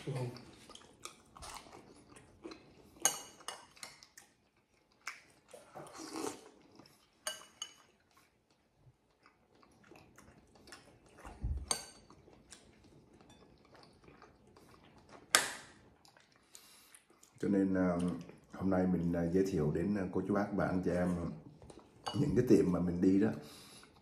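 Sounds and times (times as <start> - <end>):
soft chewing: 0.0 - 24.0.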